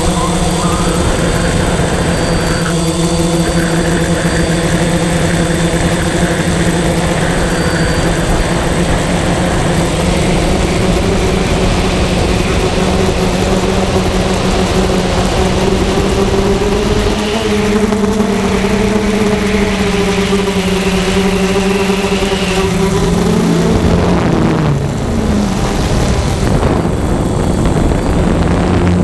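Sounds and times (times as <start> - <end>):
drone motors humming: 0.0 - 29.0
rushing wind noise: 0.0 - 29.0.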